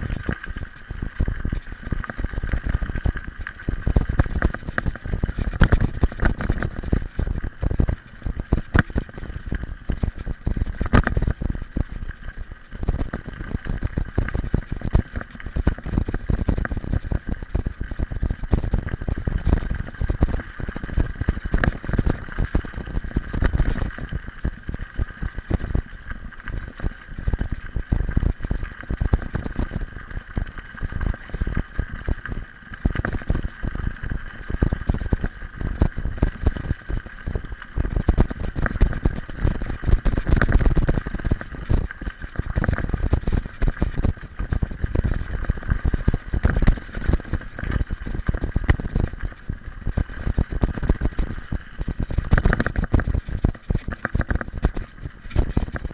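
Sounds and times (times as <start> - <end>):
bike rattling: 0.0 - 55.9.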